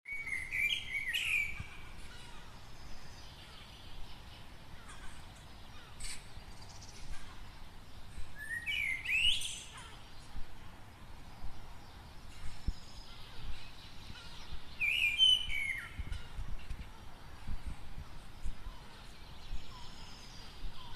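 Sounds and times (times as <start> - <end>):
birds singing and chirping: 0.1 - 20.9.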